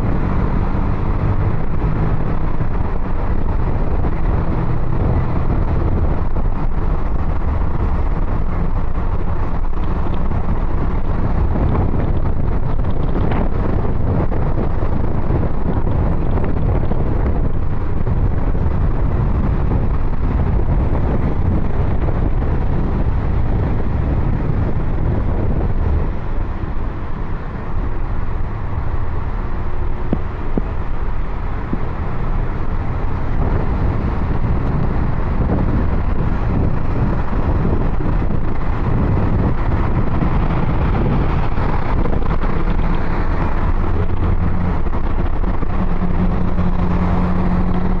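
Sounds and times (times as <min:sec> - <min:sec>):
tyre and engine rumble: 0:00.0 - 0:48.0.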